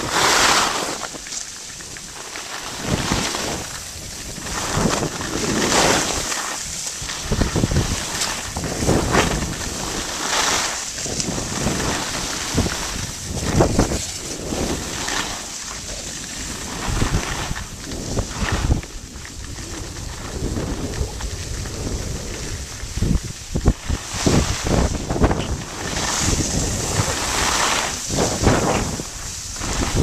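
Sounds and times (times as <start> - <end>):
skis scraping over snow: 0.0 - 30.0
wind on microphone: 0.0 - 30.0.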